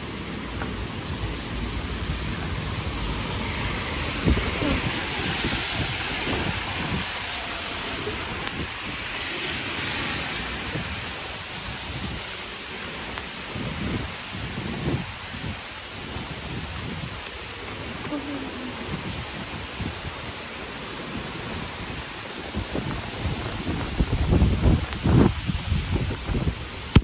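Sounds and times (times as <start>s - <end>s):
gusting wind rumbles: 0.0s - 27.0s
heavy rain hissing: 0.0s - 27.0s.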